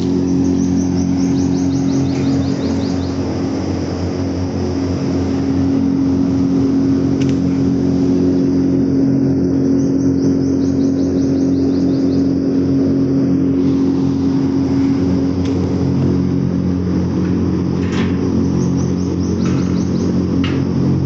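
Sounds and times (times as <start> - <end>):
ventilation fan droning: 0.0 - 21.0.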